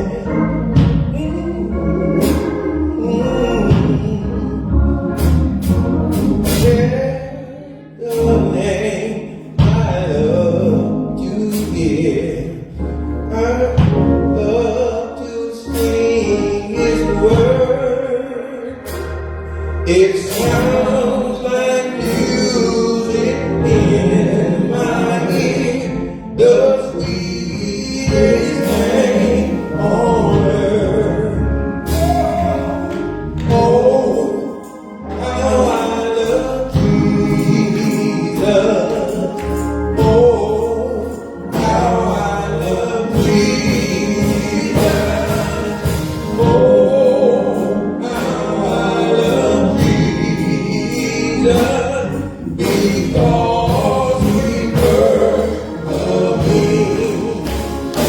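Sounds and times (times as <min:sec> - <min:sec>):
band with bass drums and keyboard: 0:00.0 - 0:07.2, 0:08.1 - 0:14.9, 0:15.7 - 0:58.0
gospel choir singing: 0:00.0 - 0:58.0.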